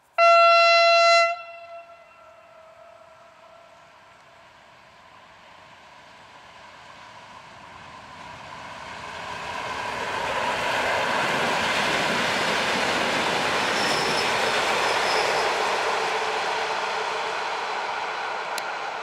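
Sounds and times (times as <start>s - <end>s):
electric train passing: 0.2s - 19.0s.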